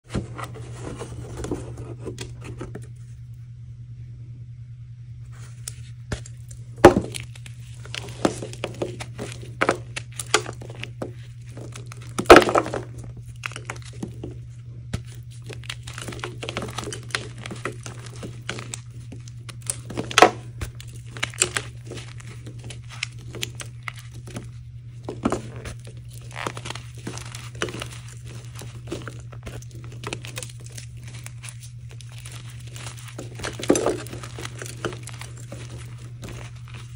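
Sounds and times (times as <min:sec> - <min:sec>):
steady low hum: 0:00.0 - 0:36.9
chalk crunching and crackling: 0:05.3 - 0:36.9.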